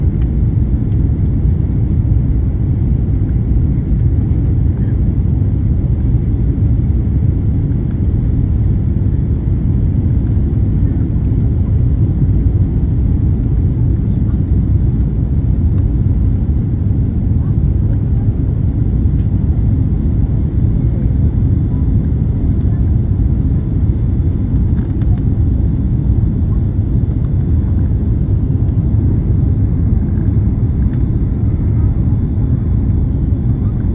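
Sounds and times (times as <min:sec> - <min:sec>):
airliner cabin engine rumble: 0:00.0 - 0:33.9.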